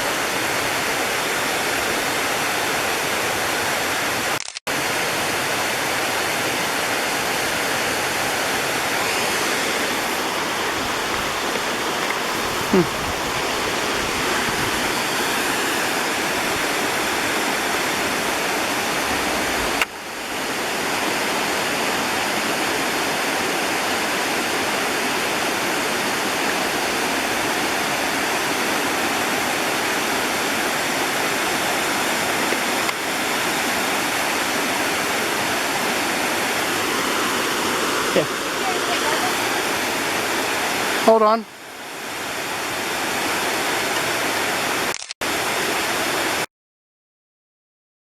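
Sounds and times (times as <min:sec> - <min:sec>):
waterfall rushing: 0:00.0 - 0:46.5.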